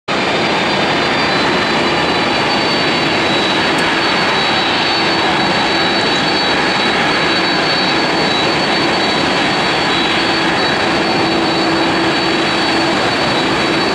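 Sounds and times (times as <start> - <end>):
jet engines taxiing with whine: 0.1 - 13.9.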